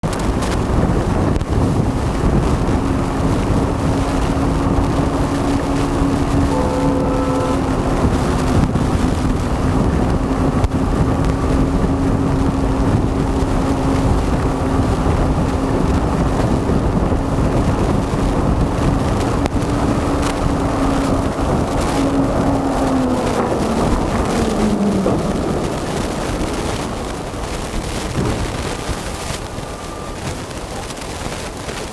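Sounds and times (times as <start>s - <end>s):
wind noise on microphone: 0.0s - 31.9s
motorcycle engine running: 0.1s - 29.6s.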